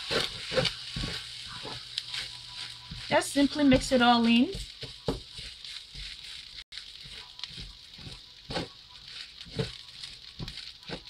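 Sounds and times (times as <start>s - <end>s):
spatula scraping rice in wok: 0.0s - 11.0s
steady sizzle: 0.0s - 11.0s.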